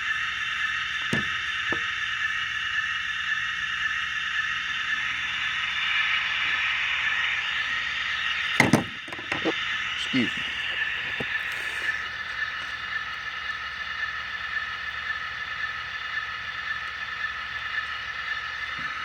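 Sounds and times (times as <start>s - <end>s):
model diesel engine chugging: 0.0s - 19.0s.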